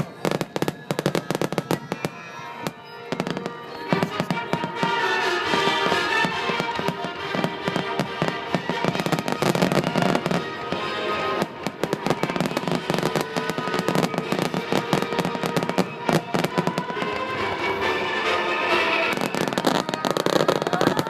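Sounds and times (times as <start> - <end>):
fireworks bursting and crackling: 0.0 - 21.0
music playing: 2.2 - 21.0.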